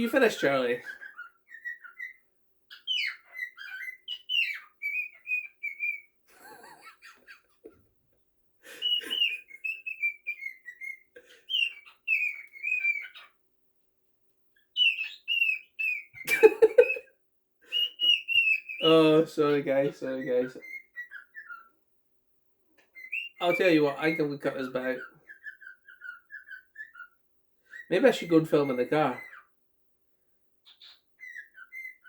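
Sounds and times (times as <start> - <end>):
pet bird whistling and chirping: 0.2 - 7.6, 8.7 - 13.4, 14.6 - 21.8, 22.9 - 29.5, 30.6 - 32.0.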